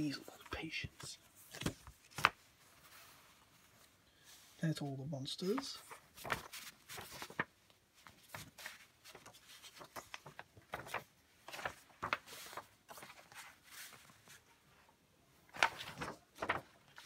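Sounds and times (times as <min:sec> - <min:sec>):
paper leaflet rustling and crinkling: 0:00.2 - 0:04.0, 0:05.4 - 0:14.8, 0:15.4 - 0:17.0.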